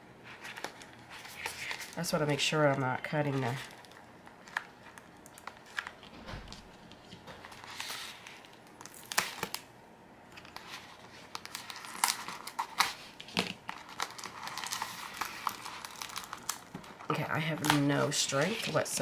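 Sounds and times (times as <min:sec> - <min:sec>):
plastic mailer crinkling: 0:00.3 - 0:09.7, 0:10.3 - 0:19.0.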